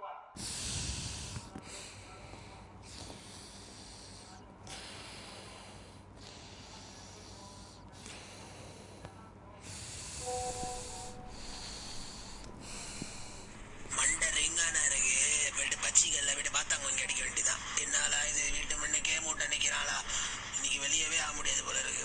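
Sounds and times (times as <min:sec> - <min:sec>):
man breathing heavily through nose: 0:00.4 - 0:22.0.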